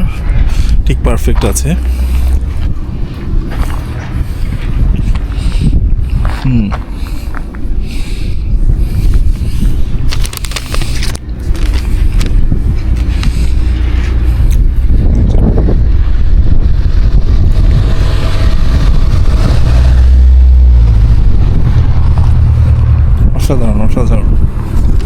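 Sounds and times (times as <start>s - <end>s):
loud low outdoor rumble: 0.0s - 25.0s.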